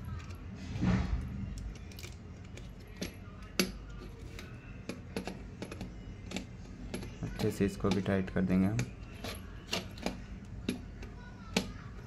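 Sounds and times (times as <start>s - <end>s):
screwdriver scraping: 1.4s - 11.8s.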